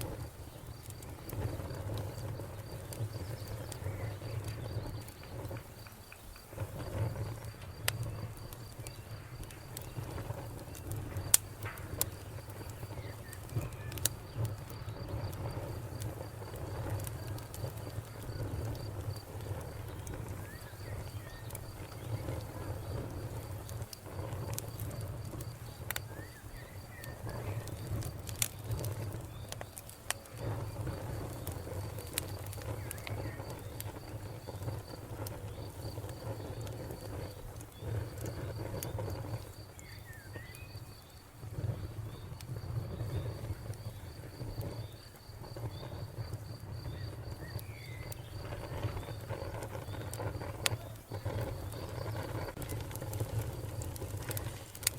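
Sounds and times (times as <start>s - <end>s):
low rumble of flame: 0.0s - 54.9s
wood fire crackling and popping: 0.0s - 54.9s.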